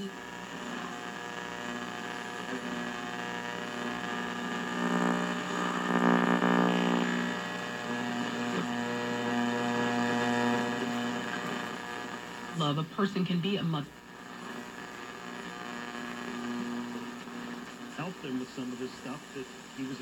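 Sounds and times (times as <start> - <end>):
radio speaker electrical buzz: 0.0 - 20.0.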